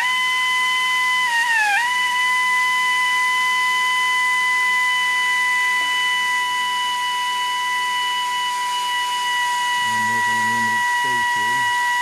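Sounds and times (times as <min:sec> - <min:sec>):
electric drill whining: 0:00.0 - 0:12.0.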